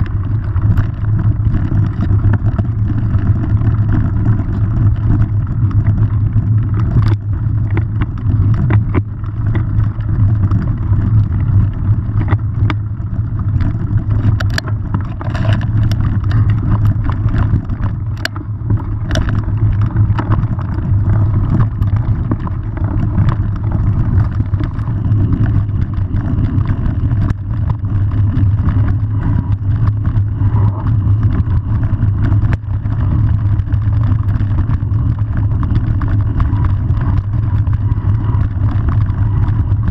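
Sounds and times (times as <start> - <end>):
bike rattles and clicks: 0.0 - 39.9
wind and ground rumble: 0.0 - 39.9.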